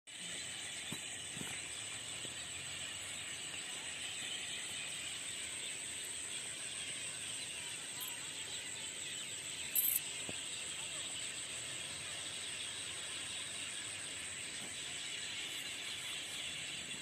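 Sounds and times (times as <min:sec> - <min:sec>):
birds chirping: 0:00.1 - 0:17.0
high-pitched insect drone: 0:00.1 - 0:17.0.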